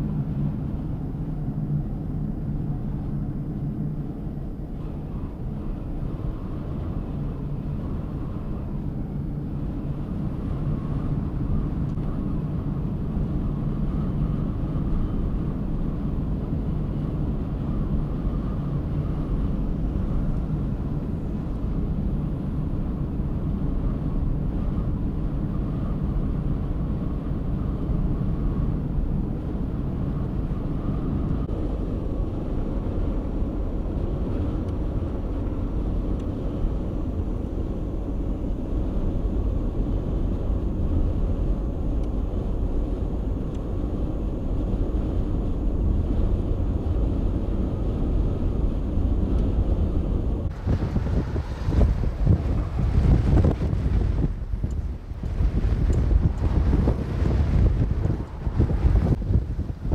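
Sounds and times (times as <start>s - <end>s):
vehicle driving on highway: 0.0s - 59.9s.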